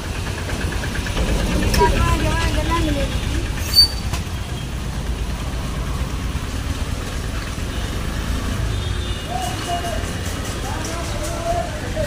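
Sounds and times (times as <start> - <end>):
car engines running: 0.0 - 12.0
tyres on wet road: 0.0 - 12.0.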